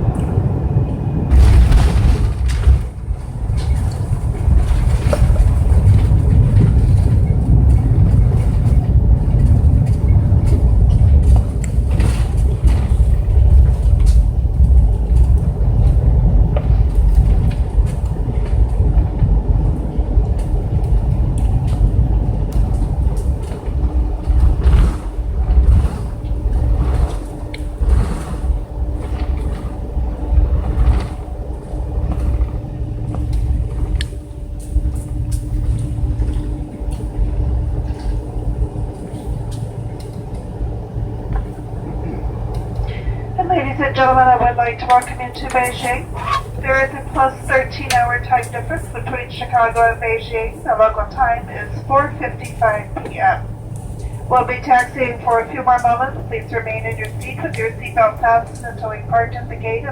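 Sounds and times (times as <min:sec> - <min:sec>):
aircraft cabin low rumble: 0:00.0 - 0:59.9
steady hum: 0:00.0 - 0:59.9.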